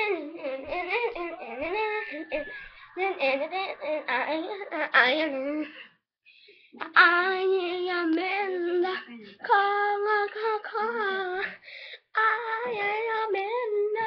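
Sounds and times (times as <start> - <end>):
child singing: 0.0 - 5.8, 6.8 - 14.0.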